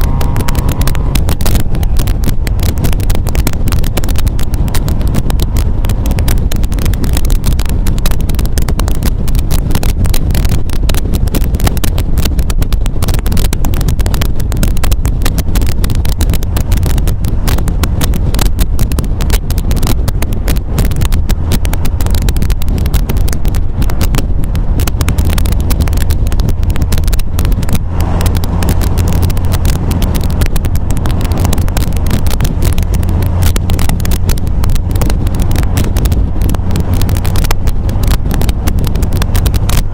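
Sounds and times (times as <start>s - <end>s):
car engine droning: 0.0s - 39.9s
road and wind noise: 0.0s - 39.9s.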